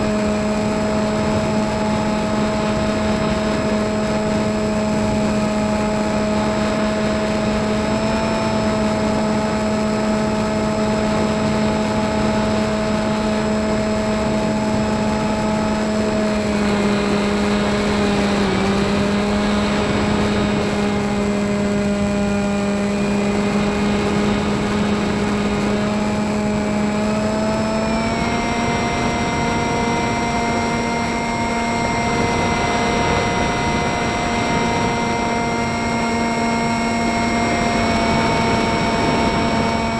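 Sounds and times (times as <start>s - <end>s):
model plane motor droning: 0.0s - 39.9s
wind rush: 0.0s - 39.9s.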